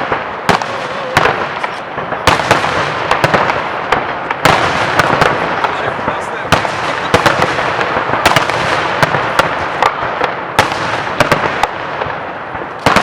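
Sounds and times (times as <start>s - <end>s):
fireworks bangs and pops: 0.0s - 13.0s
fireworks crackling hiss: 0.0s - 13.0s.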